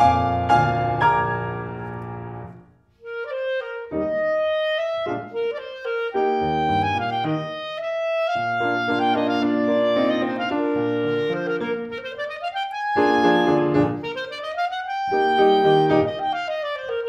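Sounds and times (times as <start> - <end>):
piano chords: 0.0 - 2.8, 3.8 - 17.0
clarinet melody with piano: 0.0 - 17.0.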